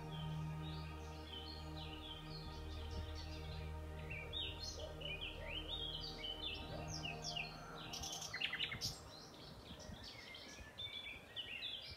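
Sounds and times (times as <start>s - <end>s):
sustained music tones: 0.0s - 9.8s
songbirds singing: 0.0s - 11.9s.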